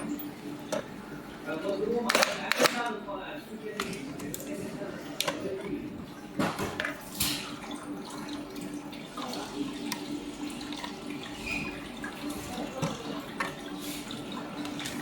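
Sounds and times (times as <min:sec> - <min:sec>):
water running: 0:02.8 - 0:15.0.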